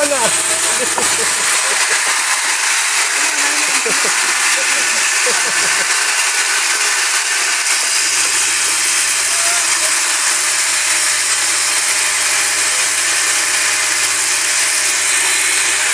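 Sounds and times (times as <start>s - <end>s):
power tool whirring: 0.0s - 15.9s.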